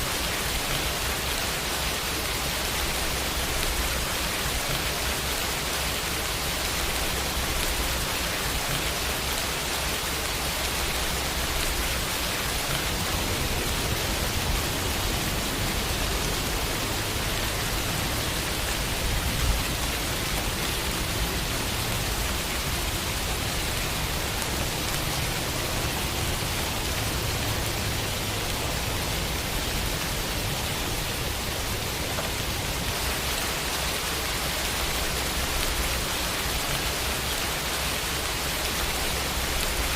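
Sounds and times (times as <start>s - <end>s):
rain on a window: 0.0s - 39.9s
rain splash: 0.0s - 39.9s.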